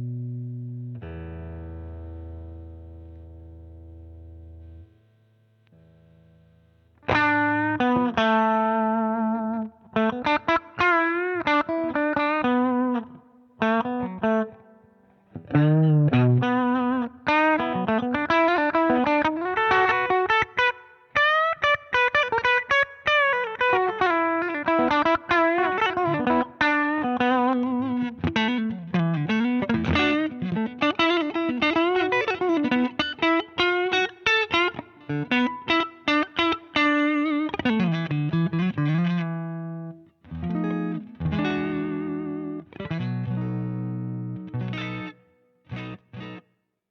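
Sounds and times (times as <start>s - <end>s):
overdriven electric guitar: 0.0s - 46.5s.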